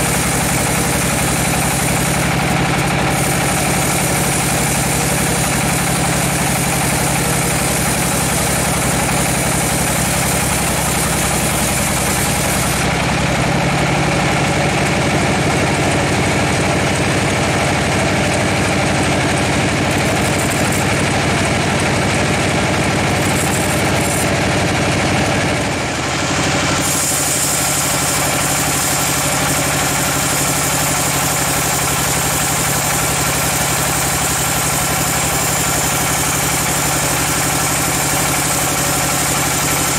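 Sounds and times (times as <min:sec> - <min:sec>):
bandsaw mill sawing log: 0:00.0 - 0:39.9.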